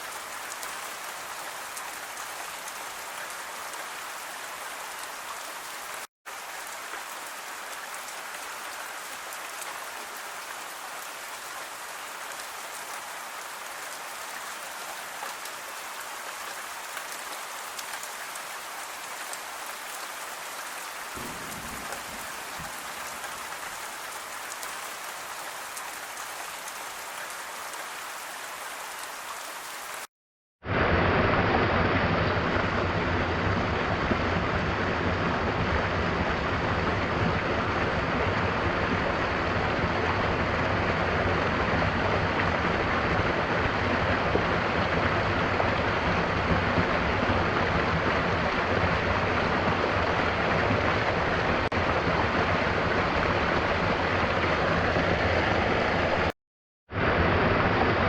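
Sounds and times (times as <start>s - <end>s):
waterfall roaring: 0.0s - 30.1s, 38.8s - 56.3s
rain with patter of drops: 0.0s - 58.0s.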